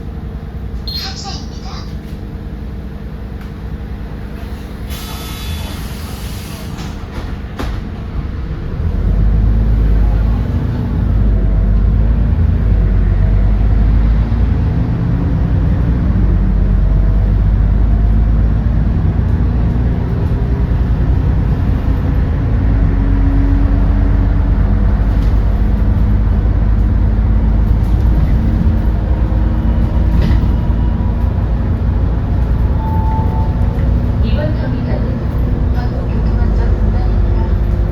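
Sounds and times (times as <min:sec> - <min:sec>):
bus engine rumbling: 0:00.0 - 0:37.9.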